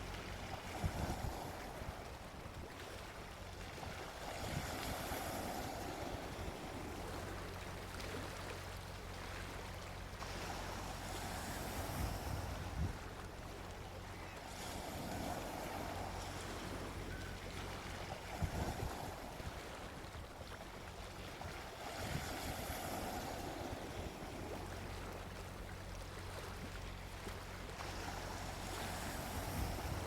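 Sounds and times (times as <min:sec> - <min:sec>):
sea waves washing onto beach: 0:00.0 - 0:30.0.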